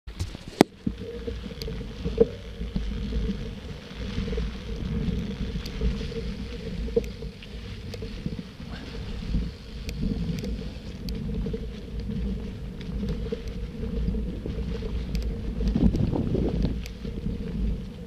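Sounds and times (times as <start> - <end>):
bike tyres rumbling on dirt: 0.1 - 18.0
wind on camera: 0.1 - 18.0.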